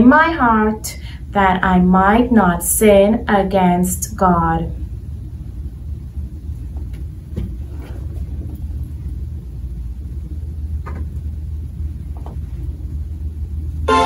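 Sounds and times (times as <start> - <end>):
low room rumble: 0.0 - 14.0.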